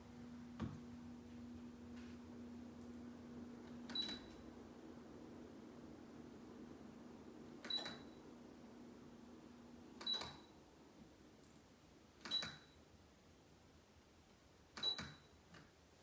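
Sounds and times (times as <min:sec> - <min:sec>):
ceiling fan hum: 0:00.0 - 0:16.0.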